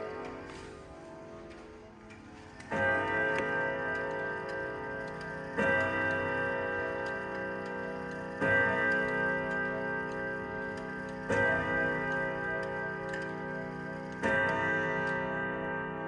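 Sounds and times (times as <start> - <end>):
clock chime strokes: 2.6 - 16.0.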